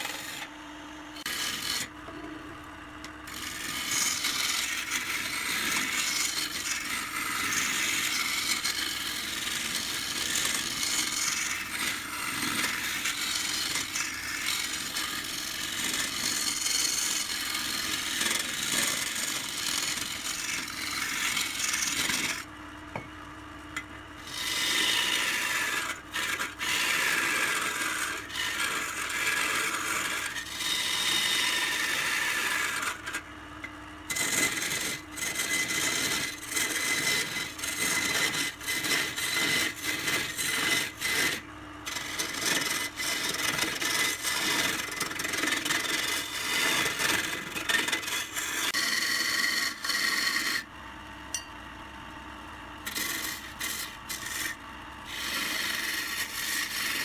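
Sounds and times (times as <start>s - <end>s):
turning tool cutting wood on lathe: 0.0s - 0.5s, 1.2s - 2.4s, 3.0s - 22.5s, 24.2s - 33.3s, 34.1s - 50.7s, 52.8s - 57.0s.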